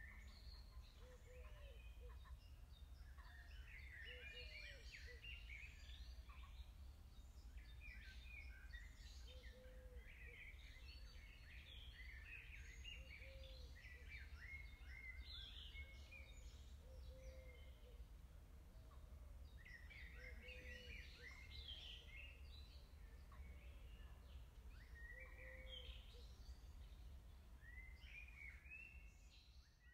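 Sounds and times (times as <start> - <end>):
birds chirping and trilling: 0.0 - 18.0, 18.7 - 29.9.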